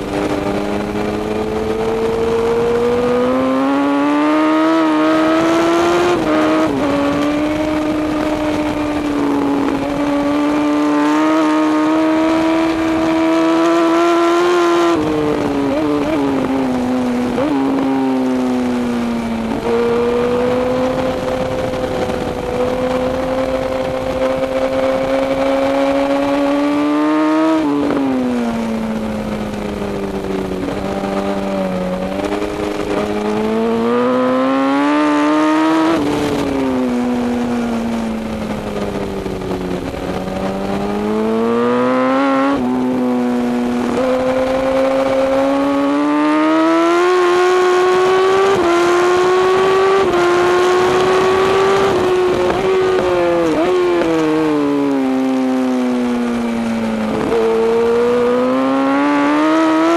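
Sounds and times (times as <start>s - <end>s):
racing motorcycle engine revving: 0.0s - 59.9s
wind rush: 0.0s - 59.9s.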